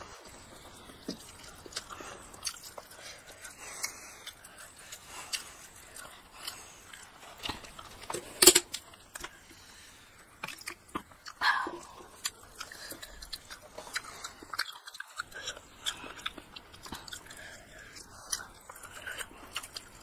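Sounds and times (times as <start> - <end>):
boy chewing food: 0.0 - 20.0.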